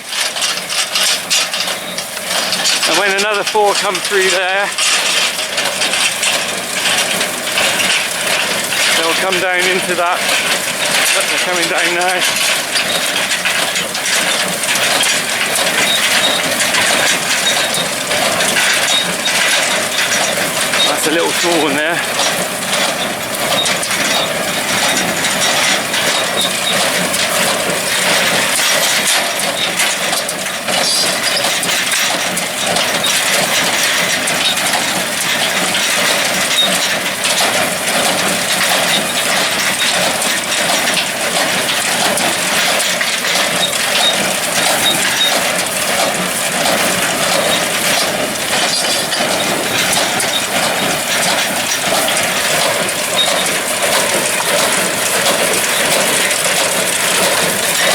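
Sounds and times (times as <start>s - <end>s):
hay baler clattering: 0.0s - 57.9s.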